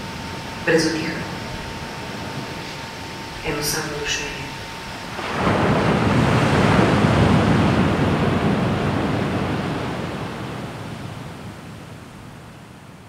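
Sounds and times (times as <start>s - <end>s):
sea waves rushing: 0.0s - 13.0s.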